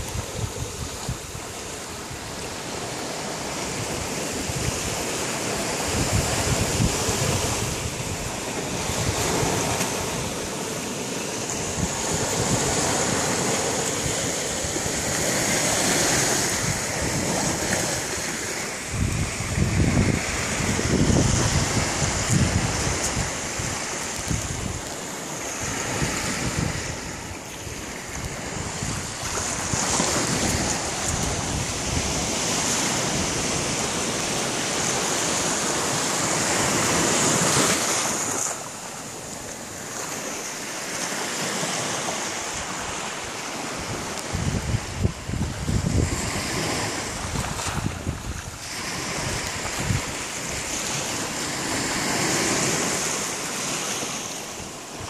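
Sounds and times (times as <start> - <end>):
wind buffeting microphone: 0.0 - 38.4, 39.1 - 55.0.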